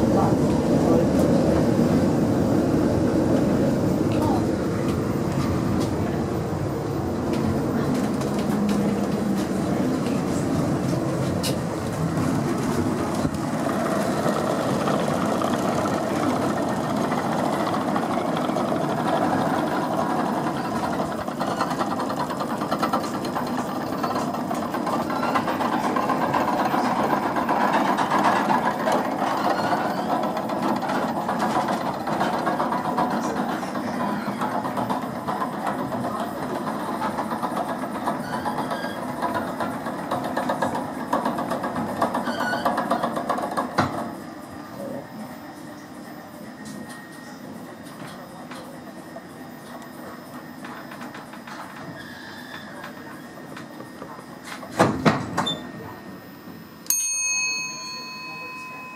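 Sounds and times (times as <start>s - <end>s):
tram rolling rumble and rattle: 0.0s - 58.9s.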